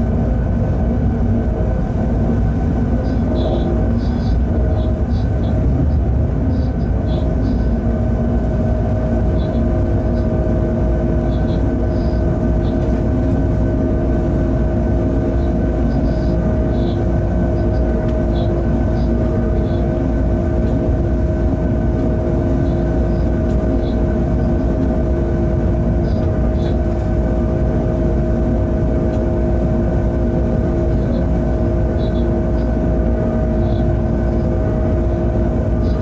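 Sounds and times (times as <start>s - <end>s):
constant hum: 0.0s - 36.0s
locomotive rumble from cab: 0.0s - 36.0s.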